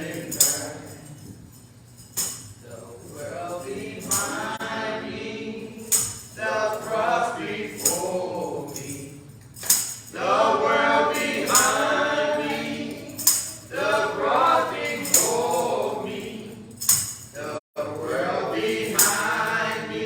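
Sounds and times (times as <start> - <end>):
choir and congregation singing hymn: 0.0 - 1.4, 2.6 - 20.0
tambourine struck: 0.0 - 4.8, 5.7 - 20.0.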